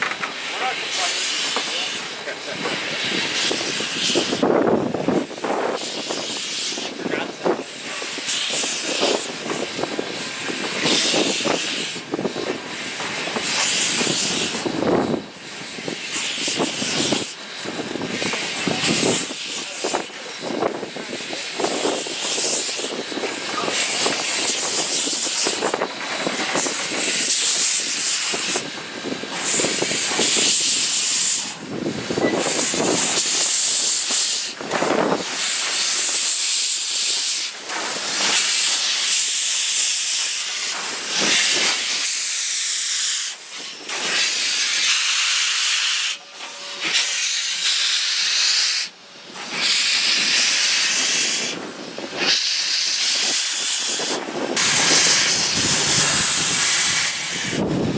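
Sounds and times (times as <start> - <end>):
steam locomotive venting steam: 0.0 - 57.9.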